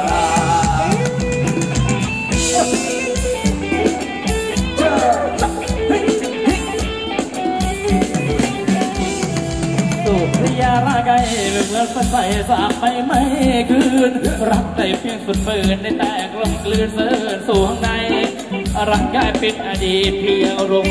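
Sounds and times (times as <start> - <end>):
person singing: 0.0 - 1.7, 2.4 - 20.9
band playing dance music: 0.0 - 20.9
drum kit beat: 0.0 - 20.9.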